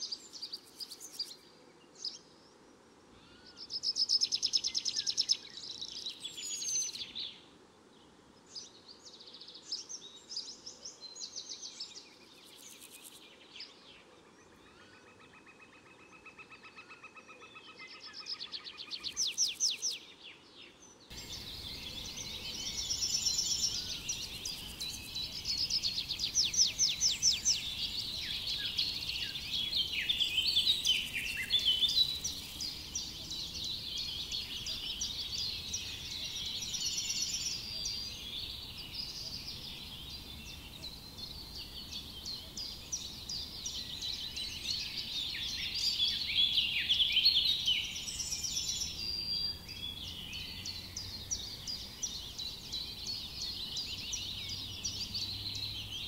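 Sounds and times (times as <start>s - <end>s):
faint steady hiss: 0.0s - 16.6s, 17.9s - 56.0s
songbirds singing: 0.0s - 56.0s.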